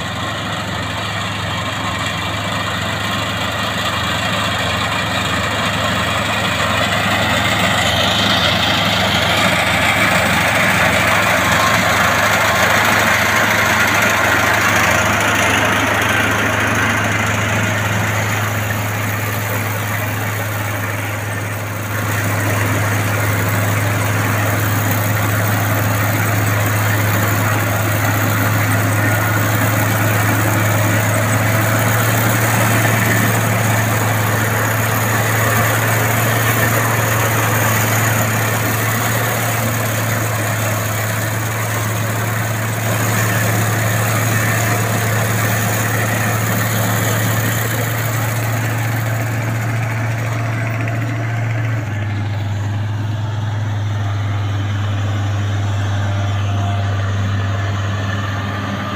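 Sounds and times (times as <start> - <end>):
engine hum: 0.0 - 58.9
whirr of threshing machinery: 0.0 - 58.9.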